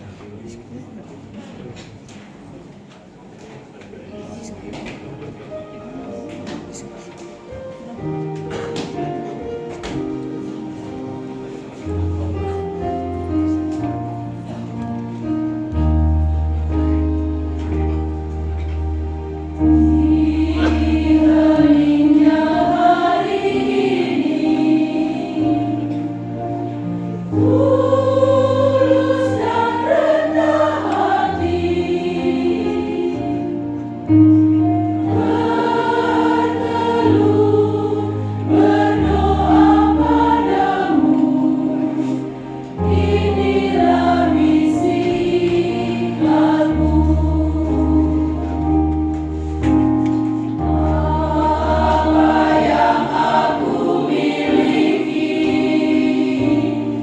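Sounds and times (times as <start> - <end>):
church choir singing a hymn: 7.5 - 57.0.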